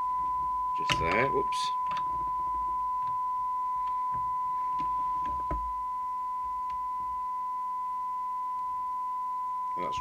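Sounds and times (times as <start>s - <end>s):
steady test tone through speaker: 0.0s - 10.0s.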